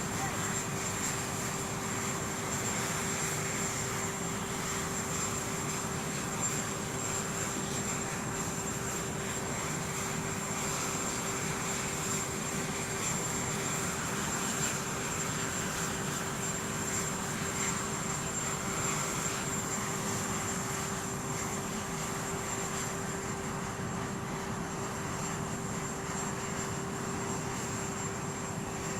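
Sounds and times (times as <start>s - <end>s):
aircraft engines running: 0.0s - 28.9s.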